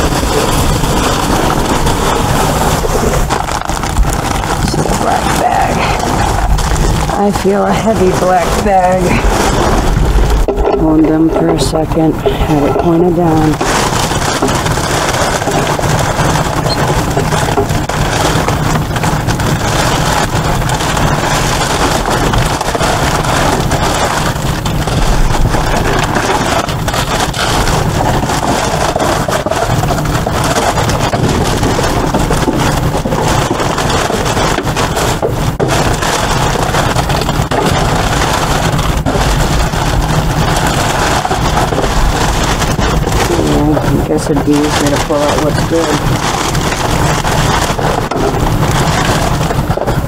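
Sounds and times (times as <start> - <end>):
plastic bags rustling: 0.0 - 50.0
trash crackling and scraping: 0.0 - 50.0.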